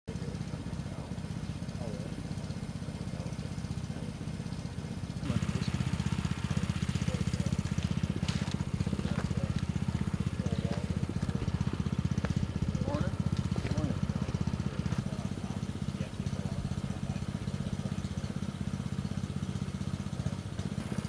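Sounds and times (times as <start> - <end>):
pump engine pulsing: 0.1 - 21.0.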